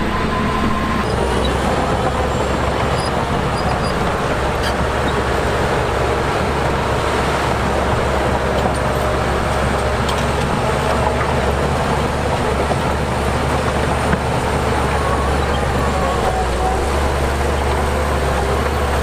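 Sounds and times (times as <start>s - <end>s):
heavy diesel machinery droning: 0.0s - 19.0s.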